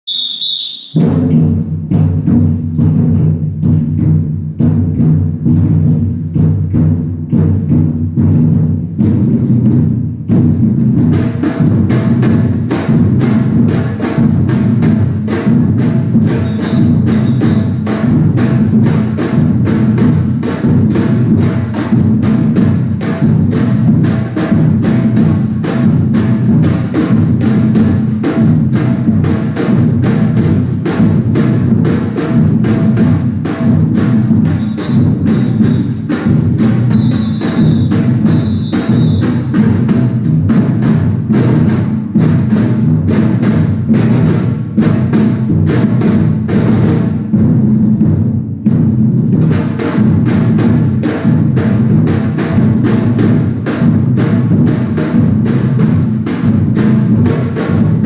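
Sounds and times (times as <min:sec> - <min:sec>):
higher snare drum hits: 0:00.0 - 0:58.0
deep bass drum strokes: 0:01.0 - 0:49.5.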